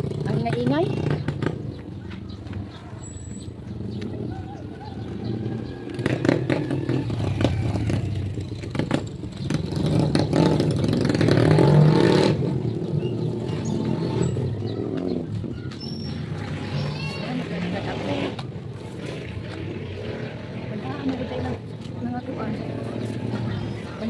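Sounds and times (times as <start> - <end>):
motorcycle passing by: 0.0 - 24.0.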